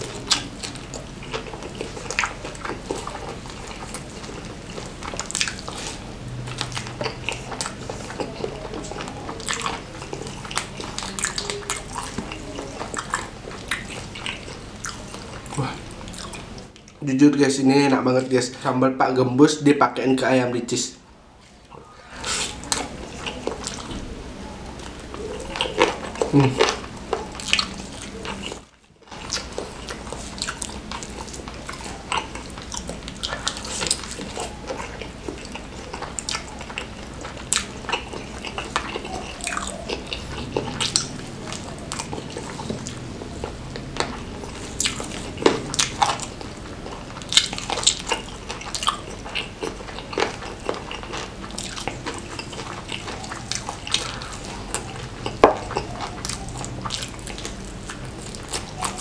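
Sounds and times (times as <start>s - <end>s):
person chewing fried chicken: 0.0s - 17.0s, 21.4s - 59.0s
wet mouth sounds: 0.0s - 17.0s, 24.8s - 59.0s.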